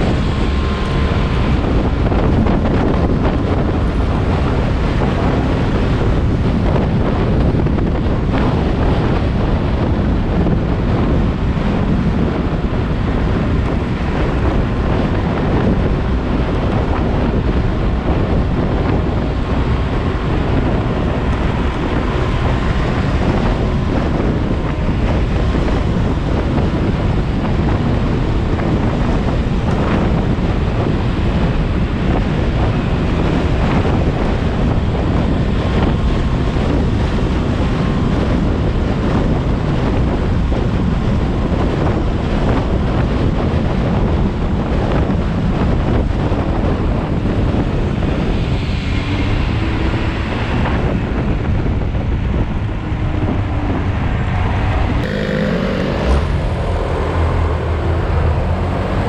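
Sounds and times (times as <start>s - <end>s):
heavy wind noise on microphone: 0.0s - 59.0s
road noise: 0.0s - 59.0s.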